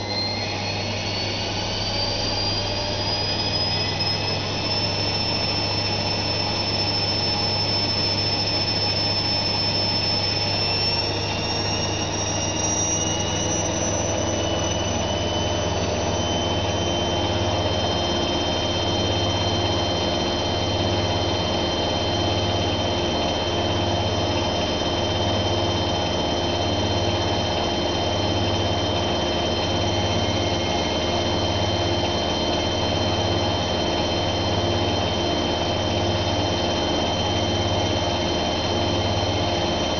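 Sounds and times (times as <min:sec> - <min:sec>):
high-pitched motor whine: 0:00.0 - 0:39.9
washing machine spinning: 0:00.0 - 0:39.9.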